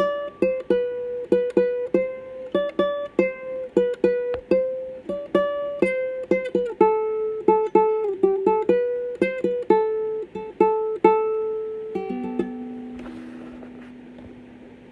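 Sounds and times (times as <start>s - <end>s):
ukulele plucked melody: 0.0s - 14.9s.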